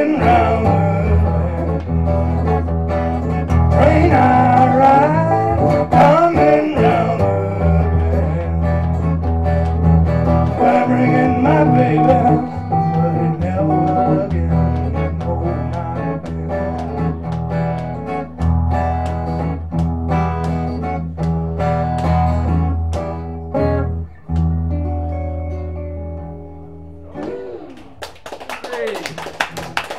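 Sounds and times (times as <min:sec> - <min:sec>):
acoustic guitar strumming: 0:00.0 - 0:27.7.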